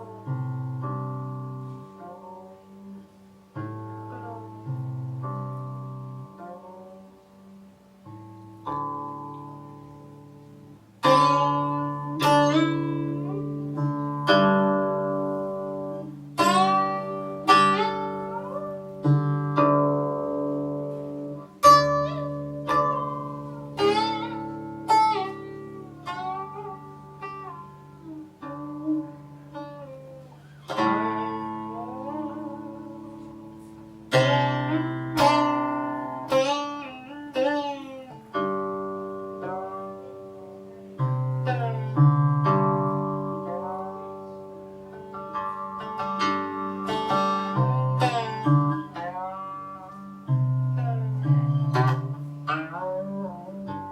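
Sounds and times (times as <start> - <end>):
plucked zither notes: 0.0 - 53.9.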